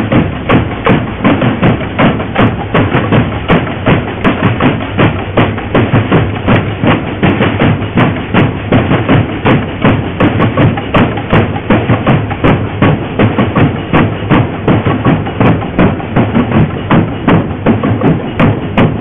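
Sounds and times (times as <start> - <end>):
drum band playing: 0.0 - 19.0.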